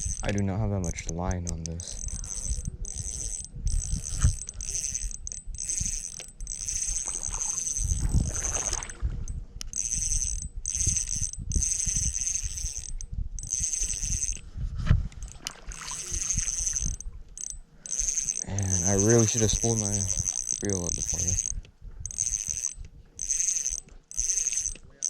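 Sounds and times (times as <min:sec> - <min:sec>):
fishing reel drag buzzing: 0:00.0 - 0:14.4, 0:15.2 - 0:25.0
low rumbling handling noise: 0:00.0 - 0:25.0.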